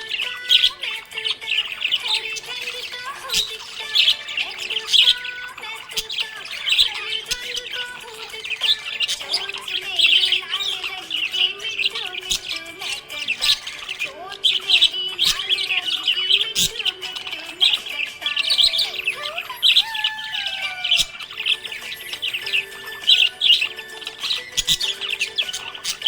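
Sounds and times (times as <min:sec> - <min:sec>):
budgerigar chirping: 0:00.0 - 0:26.0.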